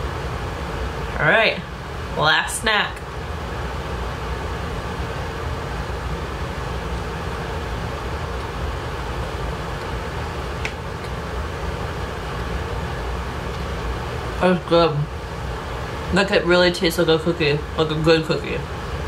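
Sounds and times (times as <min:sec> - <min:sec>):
room hum and hiss: 0:00.0 - 0:19.0.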